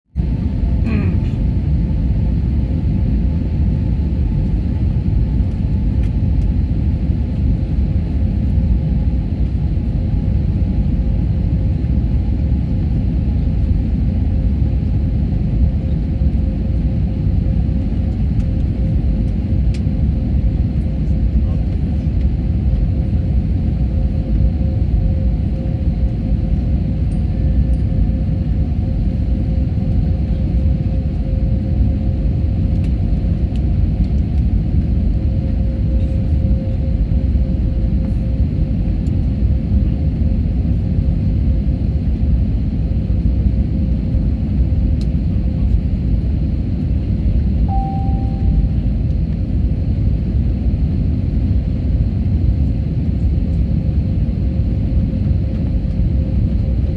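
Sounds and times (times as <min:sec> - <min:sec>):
constant hum: 0:00.1 - 0:56.9
airliner engines rumbling: 0:00.2 - 0:56.9.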